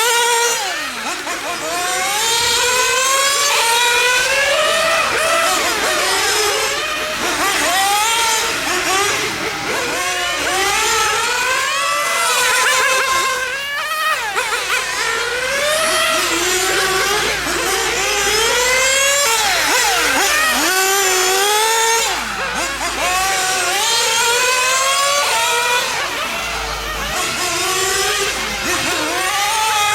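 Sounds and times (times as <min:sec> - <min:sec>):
small nitro engines revving: 0:00.0 - 0:29.9.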